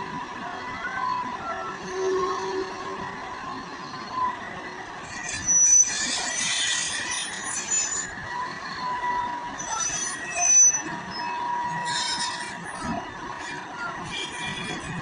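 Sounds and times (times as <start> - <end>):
excavator whine: 0.0 - 15.0
high metallic squeals: 1.0 - 4.4, 5.0 - 15.0.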